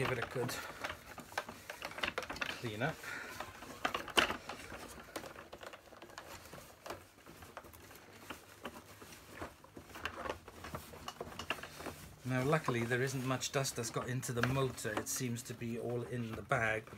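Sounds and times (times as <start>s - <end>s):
cloth rubbing plastic casing: 0.0s - 16.9s
handling clicks and knocks: 0.0s - 16.9s.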